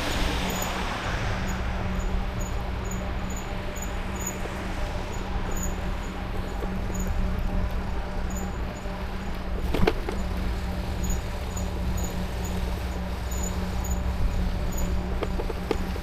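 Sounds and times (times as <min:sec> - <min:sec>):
road rumble: 0:00.0 - 0:16.0
electric bike motor hum: 0:01.4 - 0:16.0.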